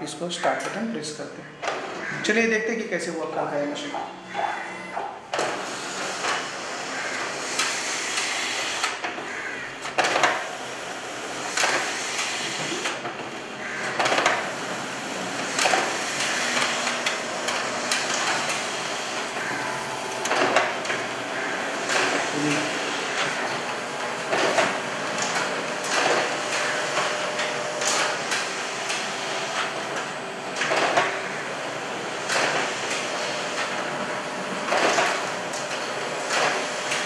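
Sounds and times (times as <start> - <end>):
copier mechanical whir: 0.0 - 37.0.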